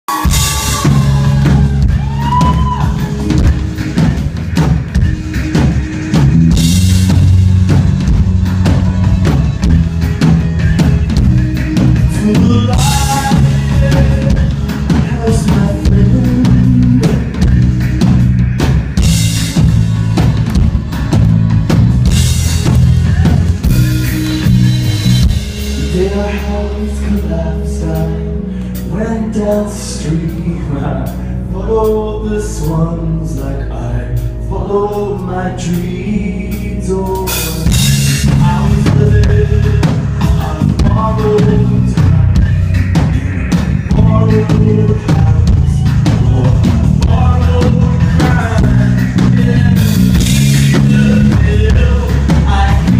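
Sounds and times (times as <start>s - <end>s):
heavy bass drum: 0.1s - 27.4s, 37.2s - 52.9s
live band playing instrumental: 0.1s - 52.9s.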